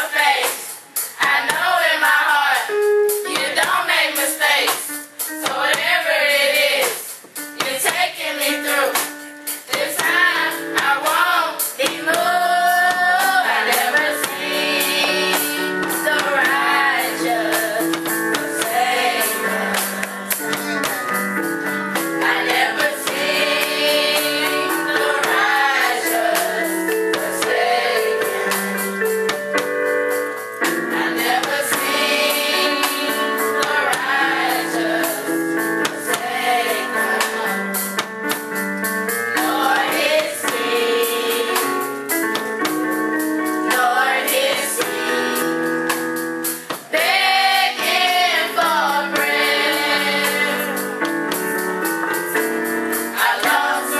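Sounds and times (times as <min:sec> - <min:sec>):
choir singing gospel song: 0:00.0 - 0:29.7, 0:30.6 - 0:38.0, 0:39.0 - 0:42.2, 0:43.4 - 0:53.9
instrumental accompaniment: 0:00.0 - 0:53.9
steady percussive beat: 0:00.0 - 0:53.9.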